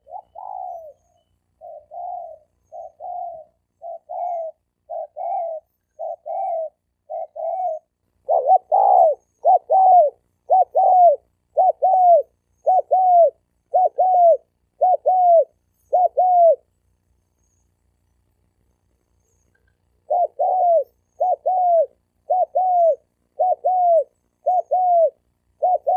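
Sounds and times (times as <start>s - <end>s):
dove cooing: 0.0s - 16.7s, 20.0s - 25.9s.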